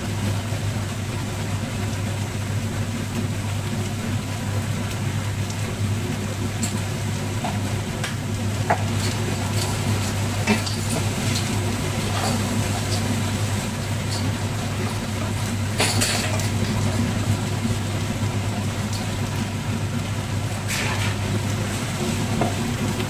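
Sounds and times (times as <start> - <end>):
vegetables and noodles frying: 0.0 - 23.0.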